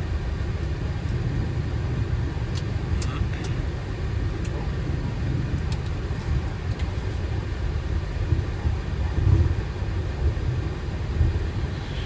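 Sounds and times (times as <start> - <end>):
airliner cockpit rumble: 0.0 - 12.0.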